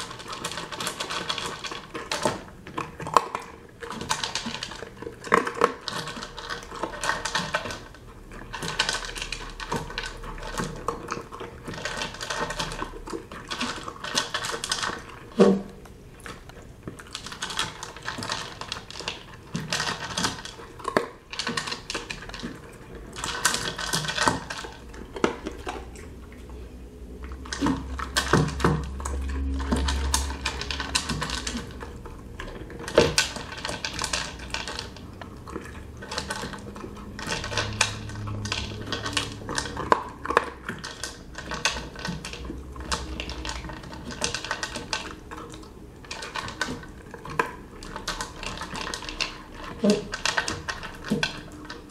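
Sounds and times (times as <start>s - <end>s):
kibble clattering in plastic bowl: 0.0s - 26.0s, 27.3s - 51.9s
dog chewing: 0.0s - 51.9s.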